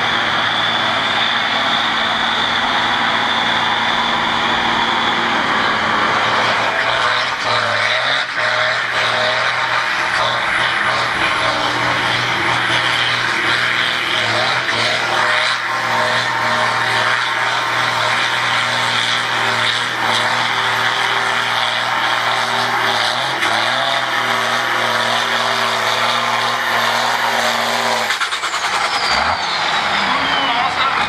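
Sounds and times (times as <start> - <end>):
tractor diesel engine at full revs: 0.0 - 31.0.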